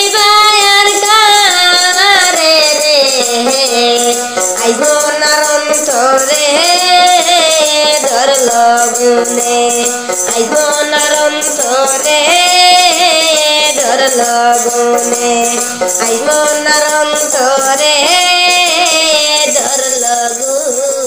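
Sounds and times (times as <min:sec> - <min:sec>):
shaker percussion: 0:00.0 - 0:21.0.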